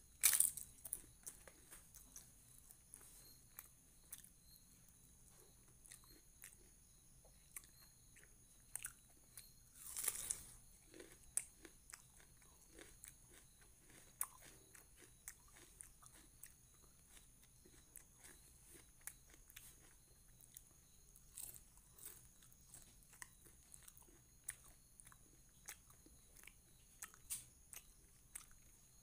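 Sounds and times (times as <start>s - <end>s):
chewing and mouth sounds: 5.3s - 29.0s.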